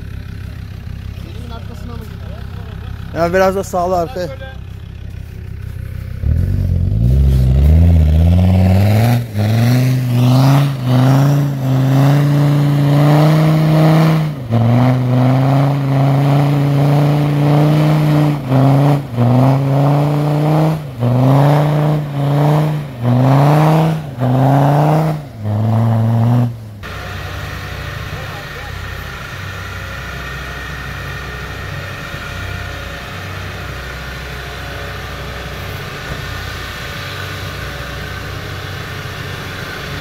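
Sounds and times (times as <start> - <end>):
diesel engine revving: 0.0 - 40.0
tyres spinning in snow: 0.0 - 40.0.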